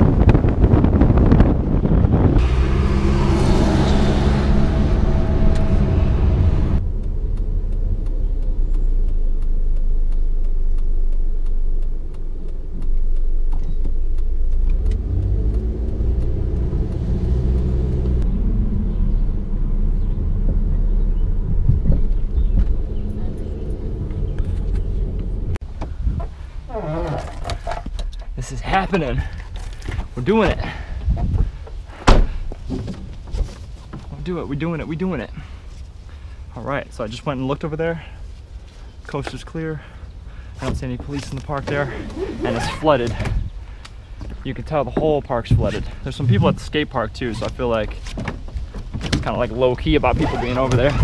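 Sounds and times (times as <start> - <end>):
wind buffeting camera: 0.0 - 35.2, 38.5 - 51.0
car engine and road noise: 0.0 - 51.0.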